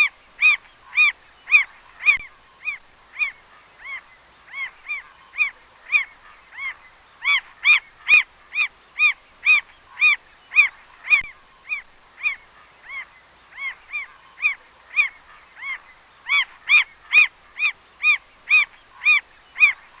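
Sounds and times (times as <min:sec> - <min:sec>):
mockingbird calling: 0:00.0 - 0:20.0.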